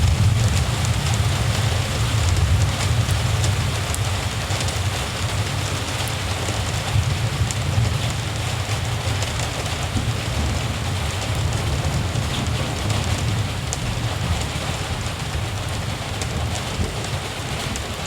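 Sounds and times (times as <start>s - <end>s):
continuous low rumble: 0.0s - 18.0s
steady rain falling: 0.0s - 18.0s.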